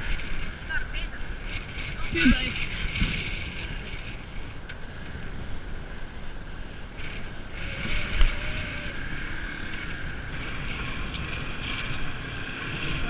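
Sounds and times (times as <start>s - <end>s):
bicycles rolling: 0.0s - 13.0s
wind rumbling on microphone: 0.0s - 13.0s.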